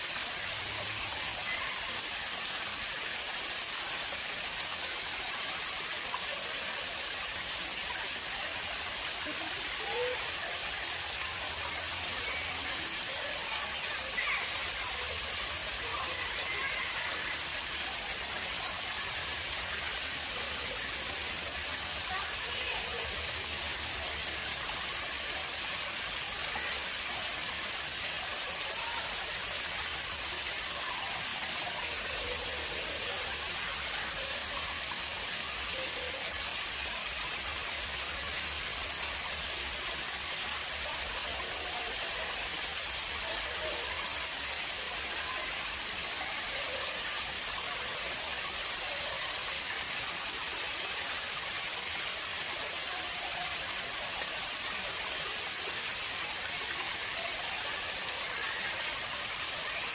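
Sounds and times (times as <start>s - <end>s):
water flowing into pond: 0.0s - 59.9s.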